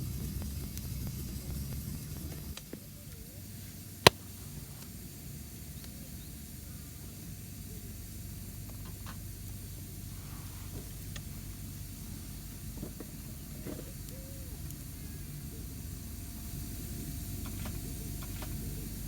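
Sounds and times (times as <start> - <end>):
steady low rumble: 0.0 - 18.2.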